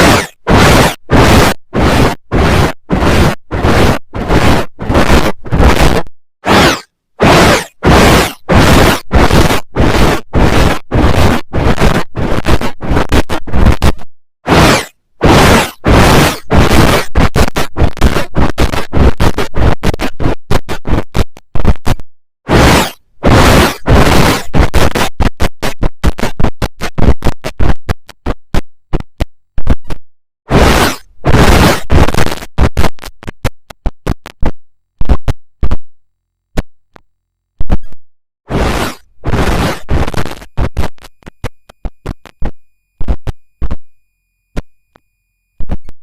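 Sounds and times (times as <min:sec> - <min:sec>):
distorted stuttering noise bursts: 0:00.0 - 0:35.8, 0:37.6 - 0:43.8.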